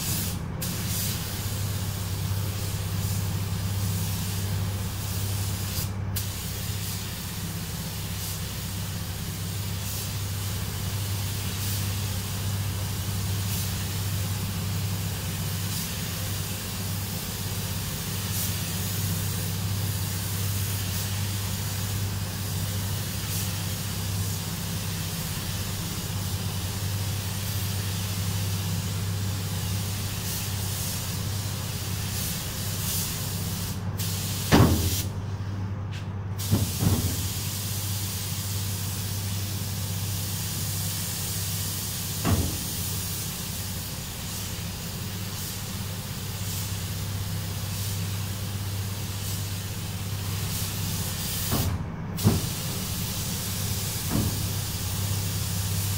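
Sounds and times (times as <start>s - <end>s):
spray gun hissing: 0.0s - 35.1s, 36.4s - 55.9s.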